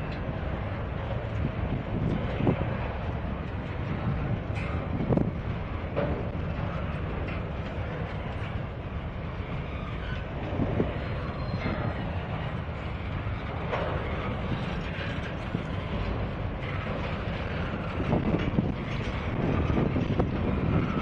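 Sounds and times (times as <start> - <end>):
steel wheels rumbling on rail: 0.0 - 21.0.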